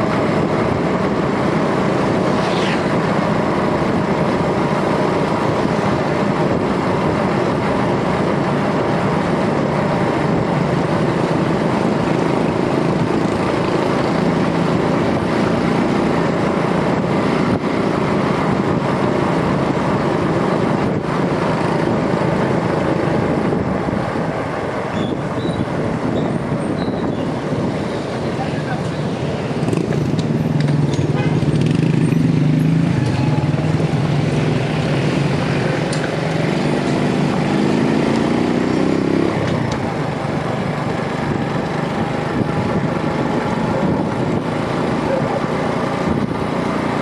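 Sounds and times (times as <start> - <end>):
motorcycle engine and road noise: 0.0 - 47.0.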